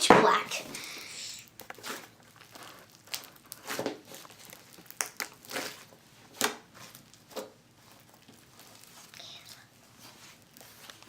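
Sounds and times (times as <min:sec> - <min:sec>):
slime crackling and popping: 0:00.2 - 0:11.0.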